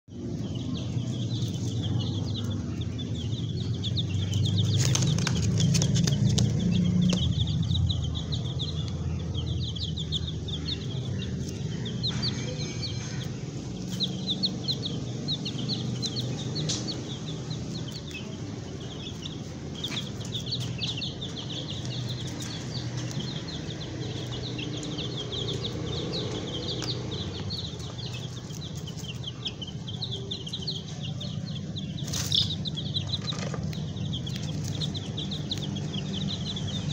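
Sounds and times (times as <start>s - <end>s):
chicks peeping: 0.1s - 36.9s
low rumble: 0.1s - 36.9s.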